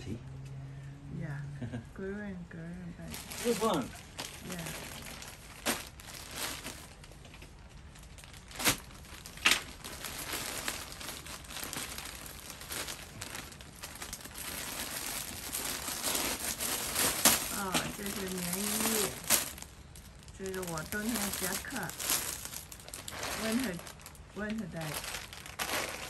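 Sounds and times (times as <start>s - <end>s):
plastic mailer bag crinkling: 3.1s - 26.0s.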